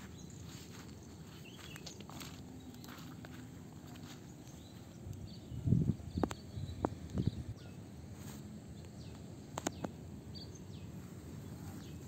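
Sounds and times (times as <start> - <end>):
footsteps and rustles in grass: 0.0 - 7.4, 8.1 - 10.0, 10.8 - 12.0
birds chirping: 0.0 - 12.0.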